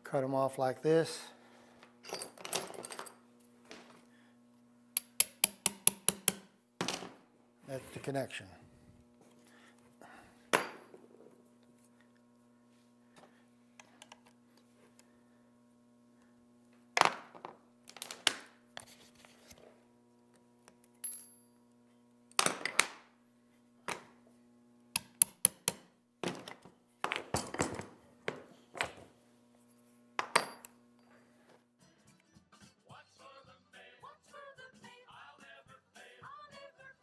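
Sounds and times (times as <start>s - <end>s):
faint steady hum: 0.0s - 32.1s.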